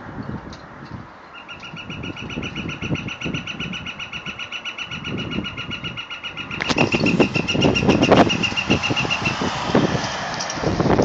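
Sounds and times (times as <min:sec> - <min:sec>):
woodpecker drumming on metal: 0:01.4 - 0:10.6.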